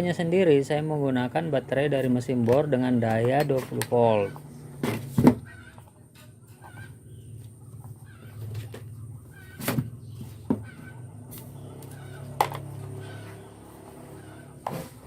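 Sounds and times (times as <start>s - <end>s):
chickens clucking: 1.9s - 15.0s.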